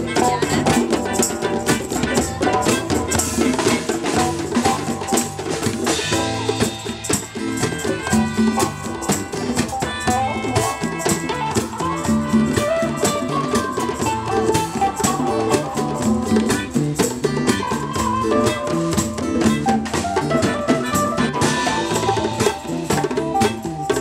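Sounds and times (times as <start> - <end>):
drum kit: 0.0 - 24.0
electric guitar: 0.0 - 24.0
hand drums: 0.0 - 24.0.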